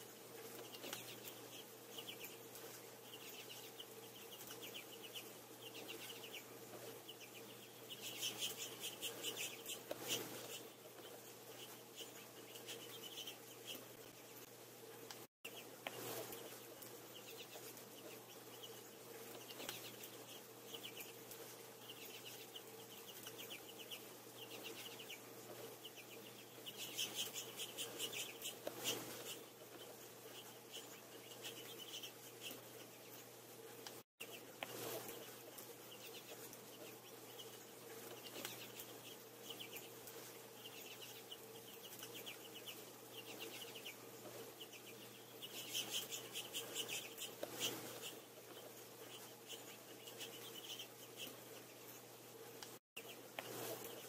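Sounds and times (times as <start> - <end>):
faint steady hum: 0.0 - 54.0
finches chirping and twittering: 0.4 - 14.4, 15.5 - 33.4, 34.2 - 52.1.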